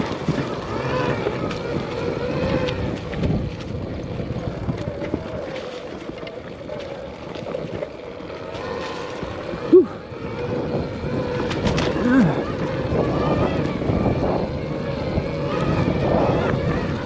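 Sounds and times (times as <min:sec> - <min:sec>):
electric motor whine: 0:00.0 - 0:17.0
wind on microphone: 0:00.0 - 0:17.0.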